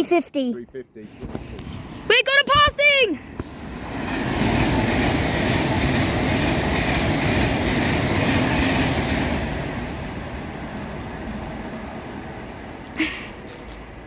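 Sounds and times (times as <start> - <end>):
train passing: 1.0 - 14.0.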